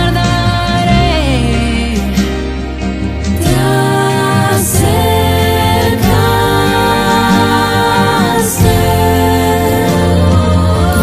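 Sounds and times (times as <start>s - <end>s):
slow music with held chords: 0.0s - 11.0s.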